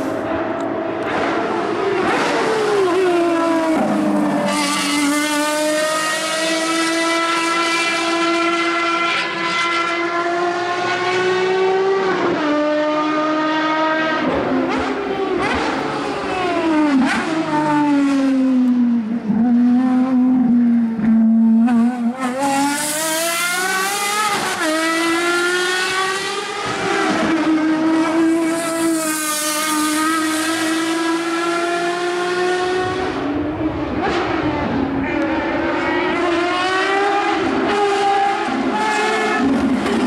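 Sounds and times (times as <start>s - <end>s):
race car engine at high revs: 0.0s - 40.0s.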